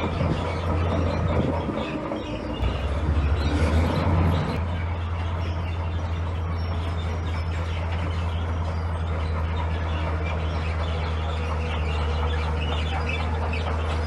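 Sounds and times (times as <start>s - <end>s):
diesel machinery engine drone: 0.0s - 14.0s.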